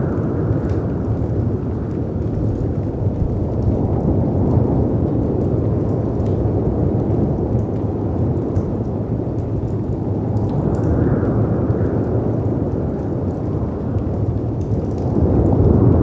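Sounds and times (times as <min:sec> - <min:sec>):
wind rumbling: 0:00.0 - 0:16.0
wood fire crackling: 0:00.0 - 0:16.0.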